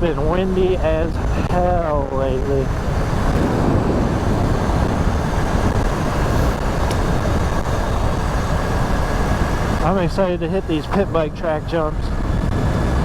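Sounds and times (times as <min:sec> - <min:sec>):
wind buffeting a microphone: 0:00.0 - 0:13.0.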